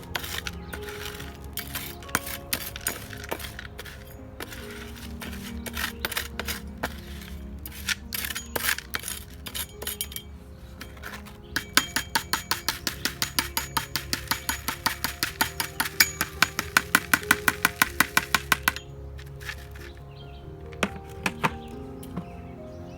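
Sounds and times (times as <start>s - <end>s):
gravel clinking in a pan: 0.0s - 20.1s
background music with drone: 0.0s - 22.9s.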